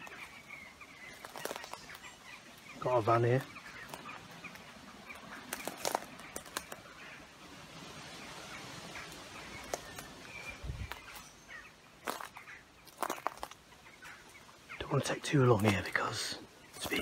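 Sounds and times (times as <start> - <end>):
footsteps through grass and brush: 0.0 - 14.7
faint bird calls: 0.0 - 17.0
twigs and leaves crackling: 0.0 - 17.0.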